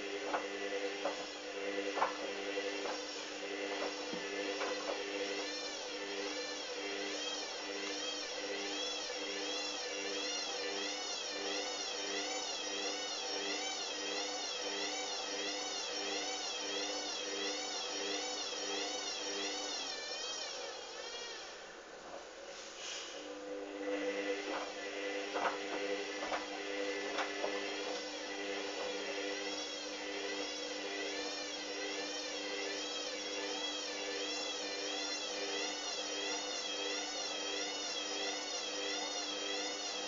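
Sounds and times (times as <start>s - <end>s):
washing machine motor whining: 0.0s - 22.6s, 23.2s - 40.0s.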